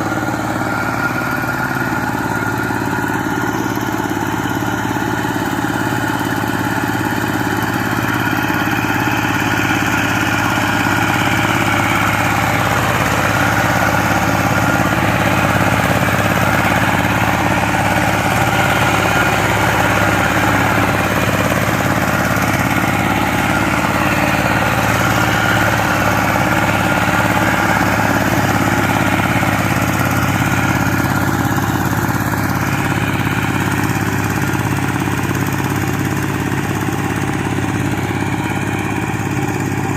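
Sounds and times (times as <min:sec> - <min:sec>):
tiller engine running: 0:00.0 - 0:39.9.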